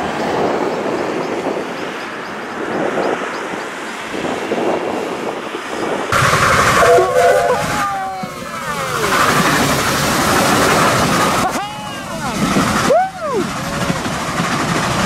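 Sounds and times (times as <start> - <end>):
steam locomotive passing: 0.0 - 15.0.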